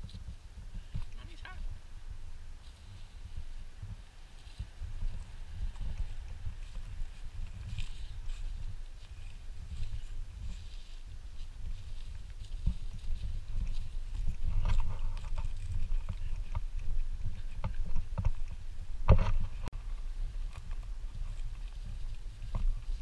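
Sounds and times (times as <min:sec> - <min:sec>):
footsteps on dry leaves: 0:00.0 - 0:18.9, 0:19.8 - 0:23.0.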